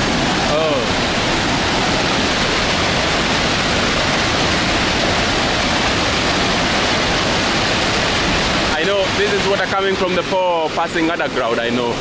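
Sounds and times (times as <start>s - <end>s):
white water rushing over rocks: 0.0s - 12.0s.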